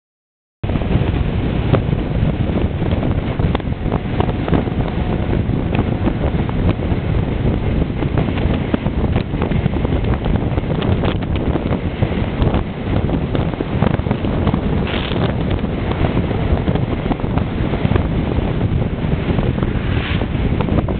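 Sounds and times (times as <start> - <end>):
wind buffeting microphone: 0.6 - 20.9.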